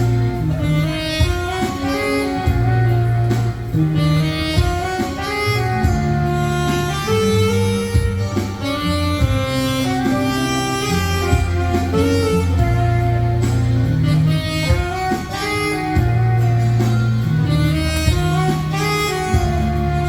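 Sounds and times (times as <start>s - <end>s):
backing track with bass line: 0.0s - 20.0s
saxophone slow melody: 0.0s - 20.0s.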